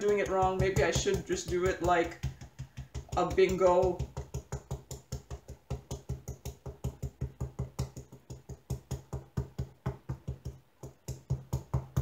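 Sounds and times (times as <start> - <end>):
sponge bottle tapping rapidly: 0.0 - 12.0.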